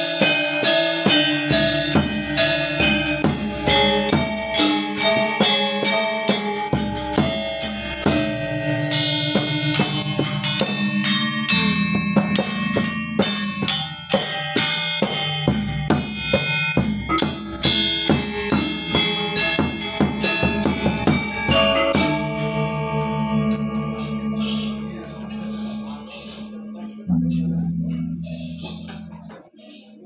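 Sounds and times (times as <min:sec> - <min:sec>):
gamelan metal keys struck: 0:00.0 - 0:29.4
drum strokes: 0:00.0 - 0:29.8
cymbal strokes: 0:00.0 - 0:30.0.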